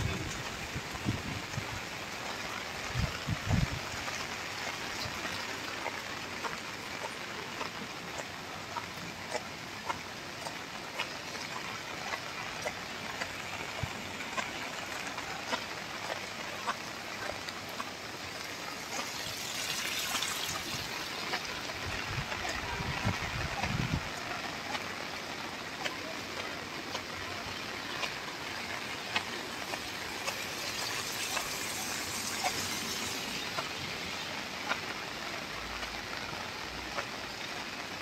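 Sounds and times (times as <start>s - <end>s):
rain on wet pavement: 0.0s - 38.0s.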